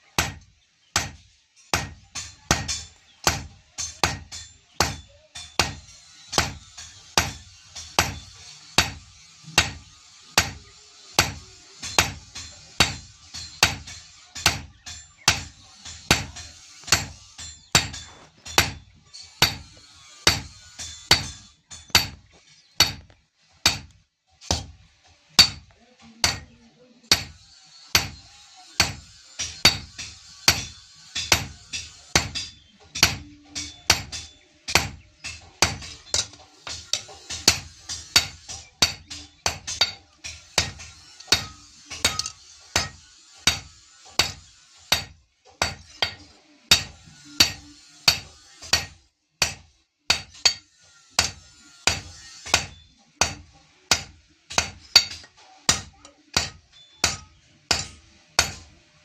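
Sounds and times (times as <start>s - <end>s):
hammer striking steel on anvil: 0.2s - 24.8s, 25.4s - 58.8s.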